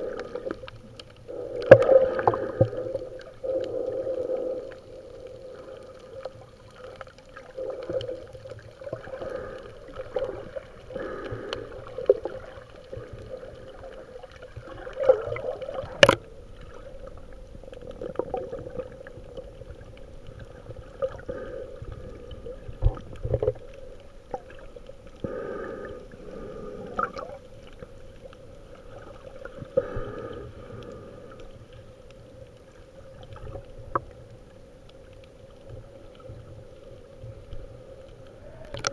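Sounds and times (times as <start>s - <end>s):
underwater water swishing and gurgling: 0.0s - 38.9s.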